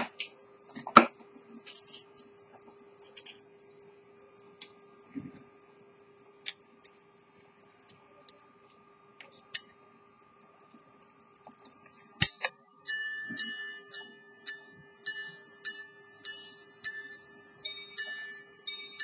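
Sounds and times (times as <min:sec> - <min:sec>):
mechanism whirring hiss: 0:00.0 - 0:19.0
steady low hum: 0:00.0 - 0:19.0.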